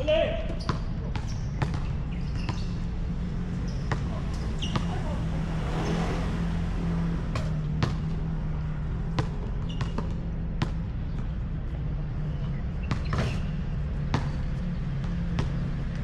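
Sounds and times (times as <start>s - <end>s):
basketball bouncing on asphalt: 0.0s - 16.0s.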